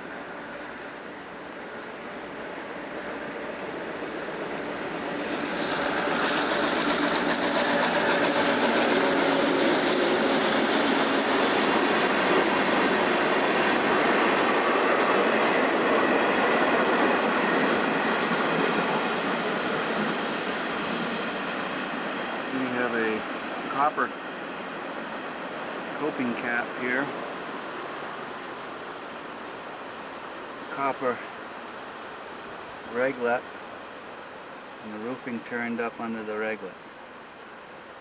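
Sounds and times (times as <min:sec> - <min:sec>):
train passing: 0:00.0 - 0:38.0.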